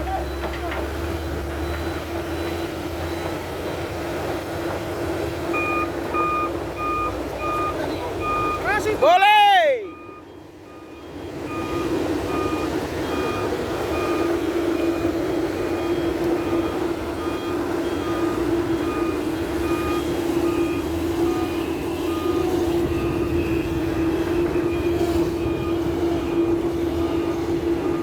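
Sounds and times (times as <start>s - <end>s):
diesel engine running: 0.0s - 28.0s
truck reversing alarm beeping: 0.0s - 28.0s.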